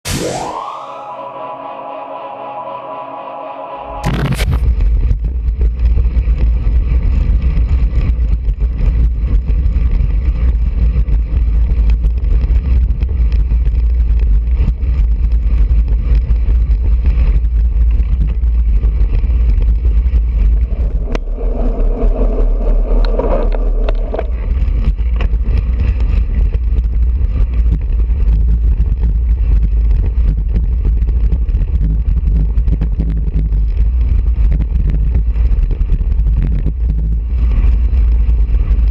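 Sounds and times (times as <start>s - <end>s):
wind buffeting microphone: 4.6s - 38.9s.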